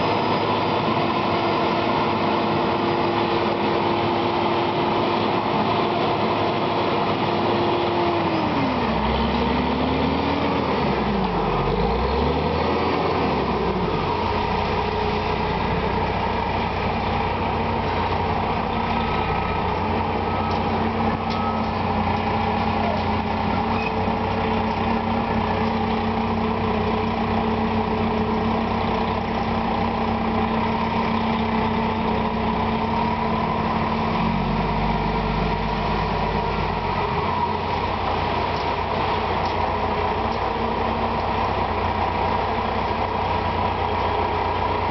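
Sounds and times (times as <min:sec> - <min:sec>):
heavy truck engine running: 0:00.0 - 0:44.9.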